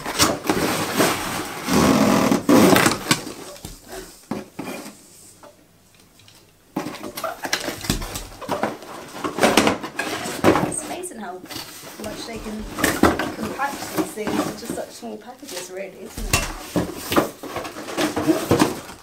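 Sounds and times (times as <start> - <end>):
cardboard rustling and scraping: 0.0 - 5.4, 6.8 - 19.0.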